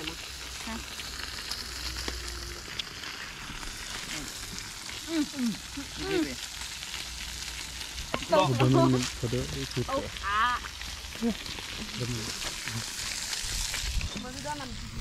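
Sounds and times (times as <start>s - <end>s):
food sizzling on grill: 0.0s - 15.0s.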